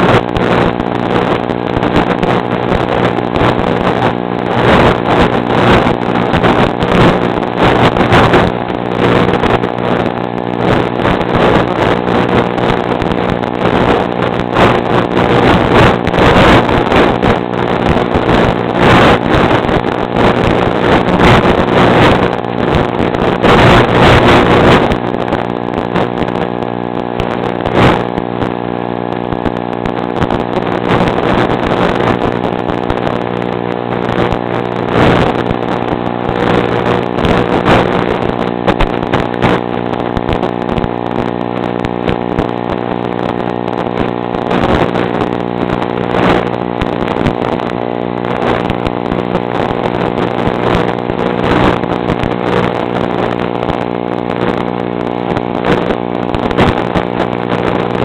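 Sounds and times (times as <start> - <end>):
motor running steadily: 0.0 - 58.0.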